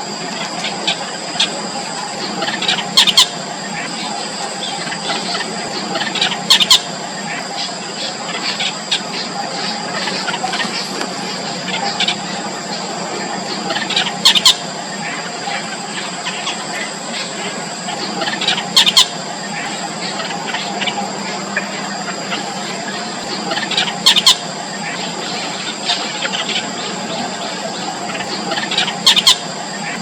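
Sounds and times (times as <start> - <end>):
chicks squawking rapidly: 0.3 - 30.0
bird chicks squeaking: 0.4 - 30.0.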